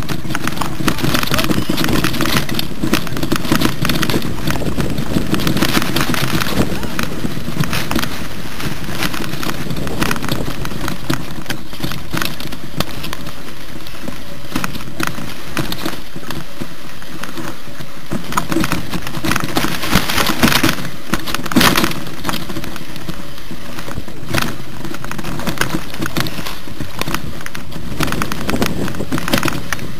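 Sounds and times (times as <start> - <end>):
mountain bike rattling over rocks: 0.0 - 29.9.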